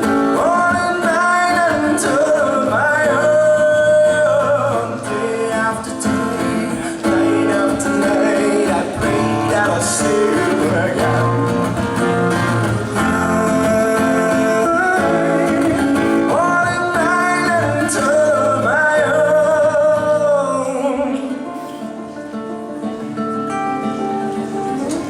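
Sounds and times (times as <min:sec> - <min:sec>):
strummed acoustic guitars: 0:00.0 - 0:25.0.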